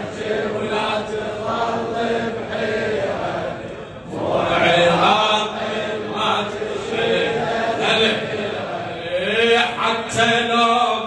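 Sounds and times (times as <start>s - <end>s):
crowd chanting: 0.0s - 11.0s
reciter's amplified voice: 0.0s - 11.0s.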